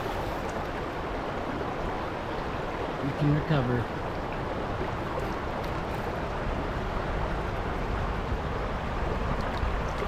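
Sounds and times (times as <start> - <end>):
stream current rushing: 0.0 - 10.0.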